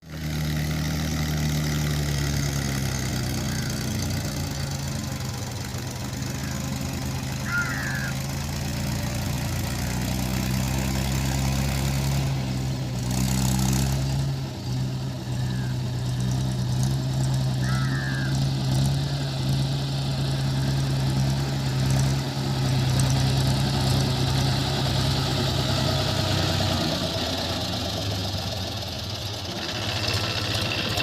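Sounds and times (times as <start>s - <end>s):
tractor diesel engine idling: 0.0s - 31.0s.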